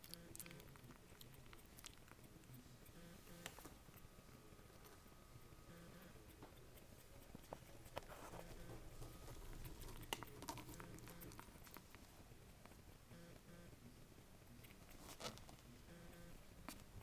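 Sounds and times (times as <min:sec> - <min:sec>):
puppies snuffling and suckling: 0:00.0 - 0:12.9, 0:14.5 - 0:15.9.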